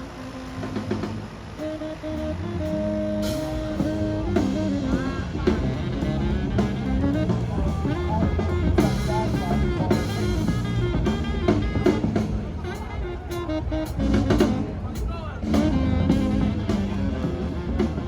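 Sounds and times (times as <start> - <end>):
music with drums bass and guitar: 0.0 - 18.0.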